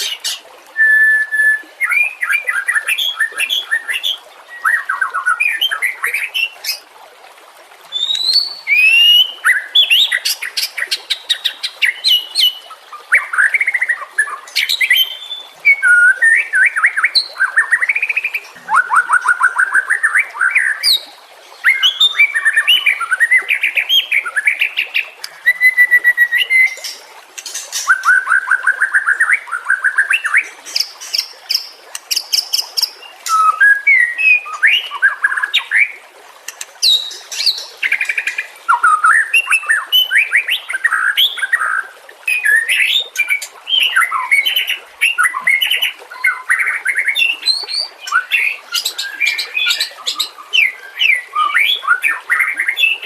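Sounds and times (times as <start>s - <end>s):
bird singing whistled song: 0.0s - 6.5s, 7.9s - 10.2s, 11.4s - 21.0s, 21.6s - 24.5s, 25.3s - 27.0s, 27.7s - 30.9s, 32.8s - 35.9s, 36.8s - 53.0s.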